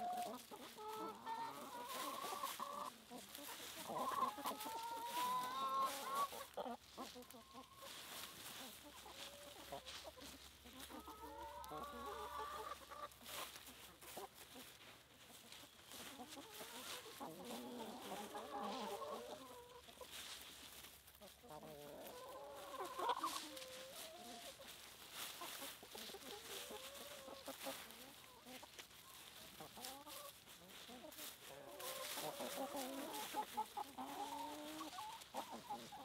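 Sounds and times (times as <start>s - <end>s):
chickens clucking: 0.0s - 36.0s.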